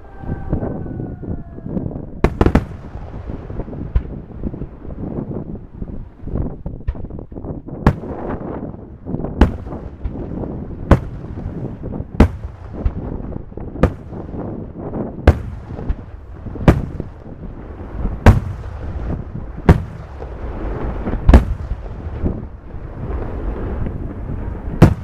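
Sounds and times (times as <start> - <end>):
rumble of crackle and echo: 0.0 - 25.0
smaller firework reports: 0.0 - 25.0.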